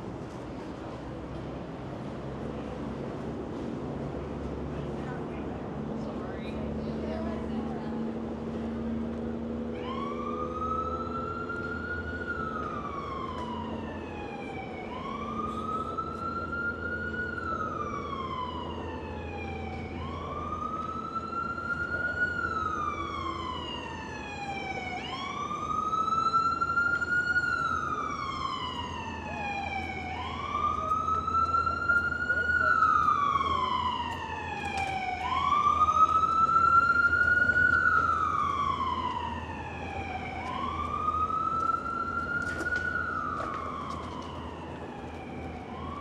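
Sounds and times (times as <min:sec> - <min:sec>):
city traffic hum: 0:00.0 - 0:46.0
emergency siren wailing: 0:06.7 - 0:46.0.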